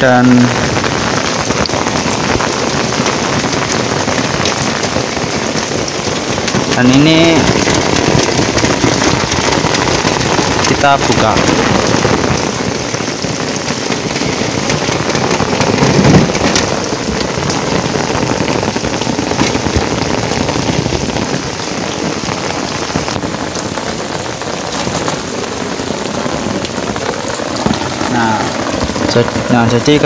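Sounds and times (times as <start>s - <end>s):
rain on plastic pipes: 0.0s - 30.0s.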